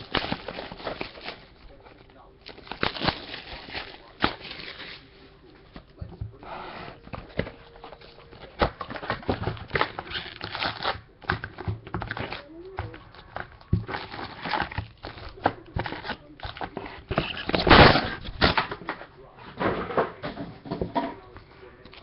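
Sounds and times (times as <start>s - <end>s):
foil wrappers rustling and crinkling: 0.0s - 19.3s.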